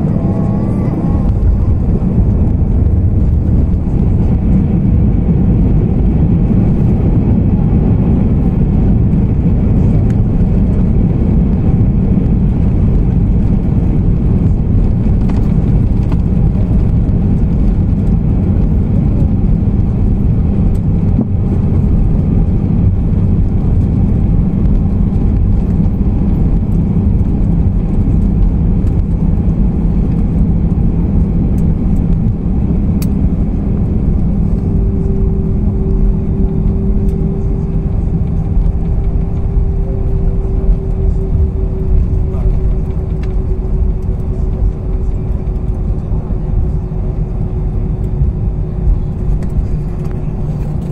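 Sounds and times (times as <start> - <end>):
plane engines and wheels rumbling: 0.0 - 50.9.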